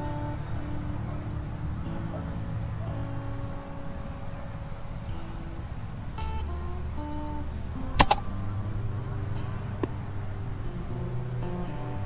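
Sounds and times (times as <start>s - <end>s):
slow held music notes: 0.0s - 12.0s
steady high-pitched hiss: 0.0s - 12.0s.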